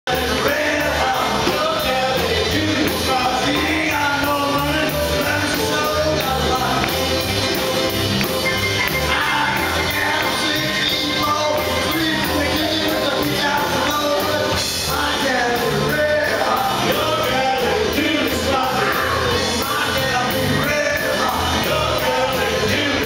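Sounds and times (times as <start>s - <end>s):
upright bass: 0.0s - 23.0s
man singing: 0.1s - 7.2s, 8.9s - 23.0s
drum kit: 0.1s - 23.0s.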